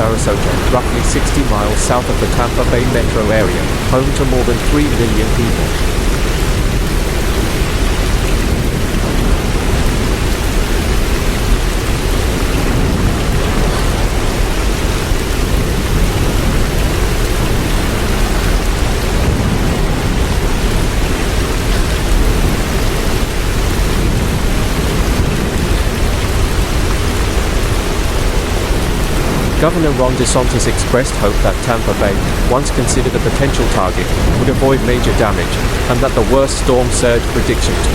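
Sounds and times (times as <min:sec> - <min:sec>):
deep rumble: 0:00.0 - 0:37.9
heavy rain: 0:00.0 - 0:37.9
strong wind rushing: 0:00.0 - 0:37.9.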